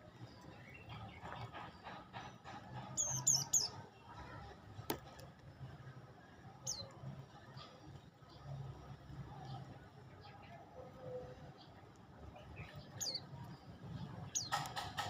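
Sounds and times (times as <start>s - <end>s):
songbird chirping: 0.0s - 4.2s, 6.4s - 15.0s.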